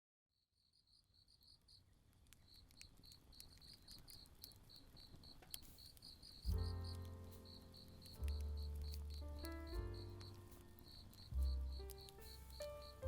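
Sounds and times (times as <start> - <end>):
crickets chirping: 0.6 - 13.0
faint clicks: 2.1 - 12.9.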